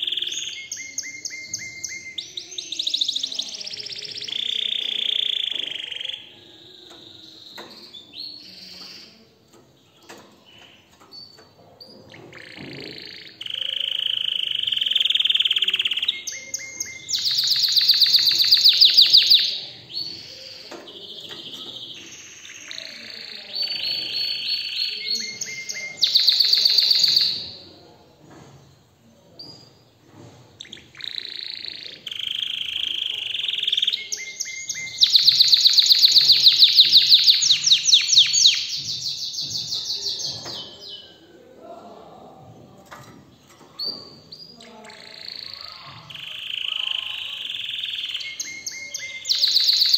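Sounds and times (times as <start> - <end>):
canary singing trills: 0.0 - 27.7, 30.6 - 41.3, 43.4 - 49.9.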